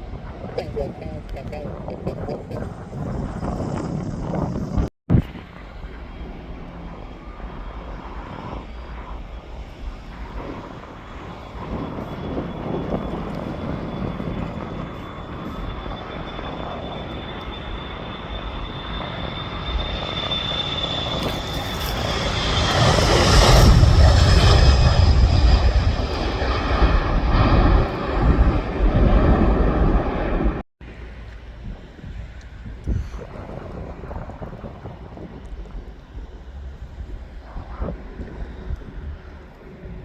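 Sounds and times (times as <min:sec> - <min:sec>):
aircraft engines passing: 0:00.0 - 0:40.0.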